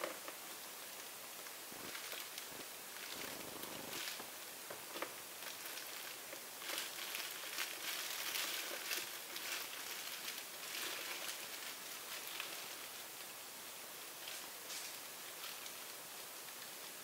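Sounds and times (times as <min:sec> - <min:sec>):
plastic crackling and rustling: 0:00.0 - 0:17.0.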